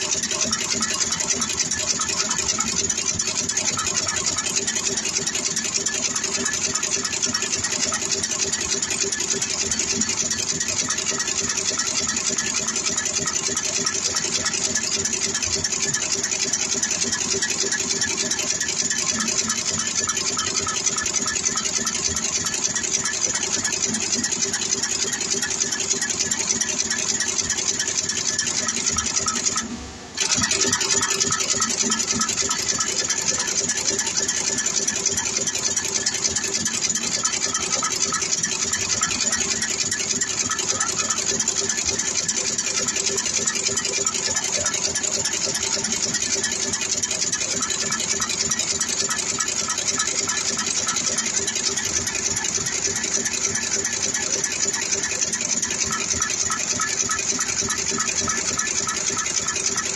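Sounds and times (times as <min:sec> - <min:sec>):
machine humming and clattering: 0:00.0 - 0:59.9.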